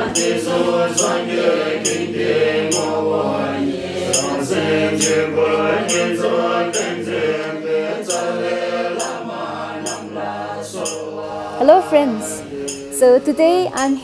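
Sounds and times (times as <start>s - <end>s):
voices chanting a mantra: 0.0s - 14.0s.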